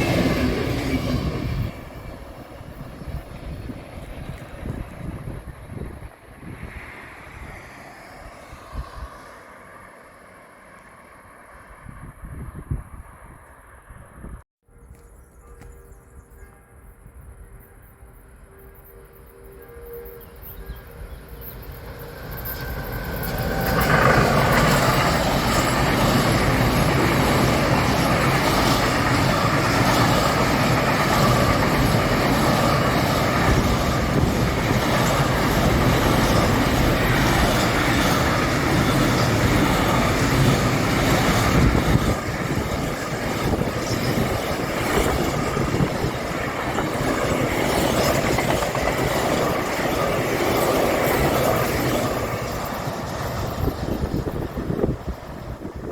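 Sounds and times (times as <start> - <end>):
train wheels rolling on rails: 0.0 - 12.8, 18.9 - 55.9.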